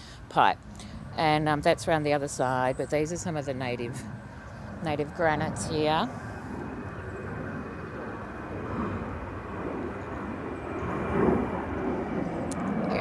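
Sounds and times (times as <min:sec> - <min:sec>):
airliner passing overhead: 0:00.0 - 0:13.0.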